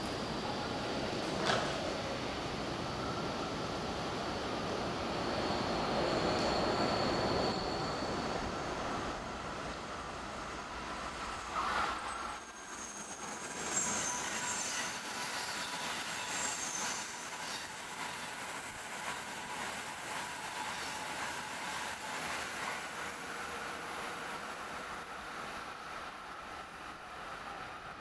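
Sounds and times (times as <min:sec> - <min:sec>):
train rushing past: 0:00.1 - 0:28.0
faint high whine: 0:02.8 - 0:28.0.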